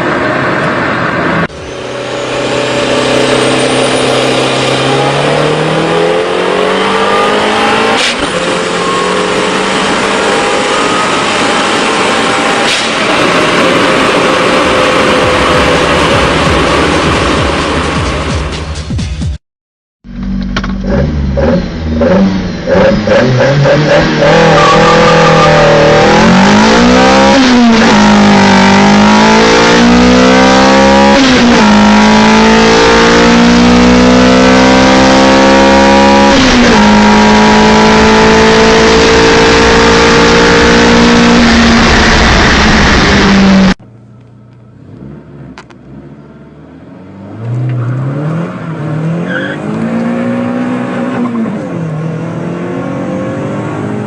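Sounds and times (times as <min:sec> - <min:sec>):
car engine accelerating through gears: 0:00.0 - 0:18.3, 0:20.1 - 0:54.0
another car engine revving: 0:00.0 - 0:18.5, 0:20.1 - 0:44.0, 0:44.6 - 0:54.0.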